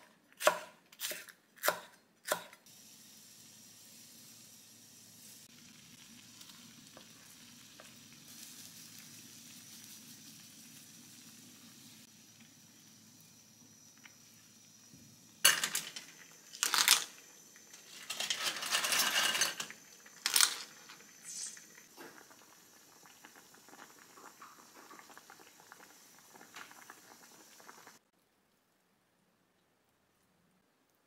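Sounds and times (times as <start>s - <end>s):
soup boiling and bubbling: 2.7s - 28.2s.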